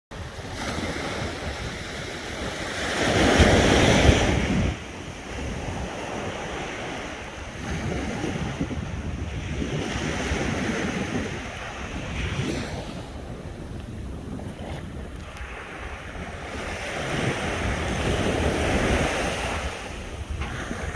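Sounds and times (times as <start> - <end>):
sea waves washing ashore: 0.1 - 20.9
wind buffeting microphone: 0.1 - 20.9.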